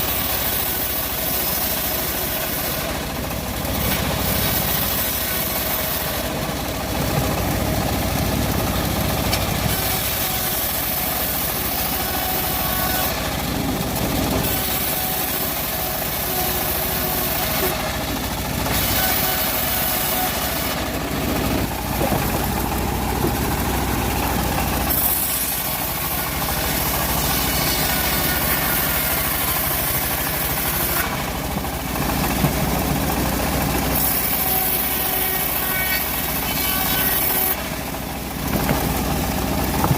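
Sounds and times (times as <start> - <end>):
saw blade rasping through log: 0.0 - 6.4, 9.3 - 32.9, 33.7 - 39.9
engine drone: 0.0 - 39.9.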